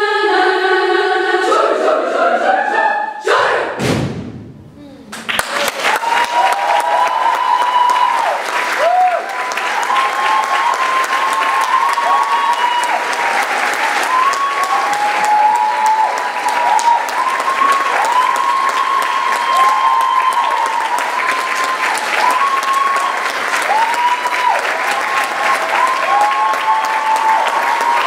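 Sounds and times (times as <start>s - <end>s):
dense applause: 5.1s - 28.0s
whooping cheers: 5.5s - 28.0s.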